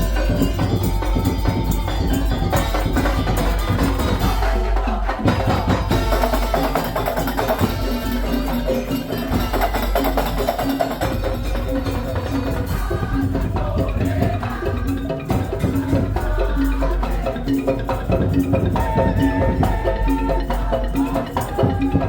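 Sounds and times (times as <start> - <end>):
drums: 0.0 - 22.0.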